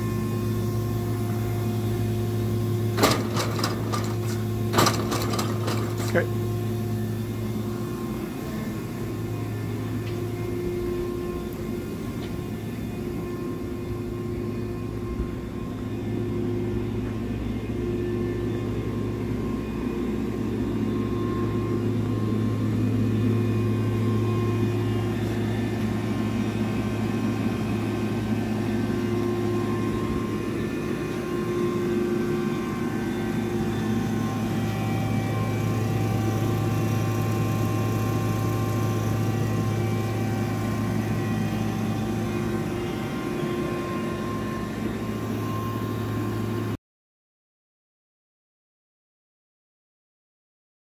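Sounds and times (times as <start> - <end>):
milling machine humming: 0.0 - 46.7.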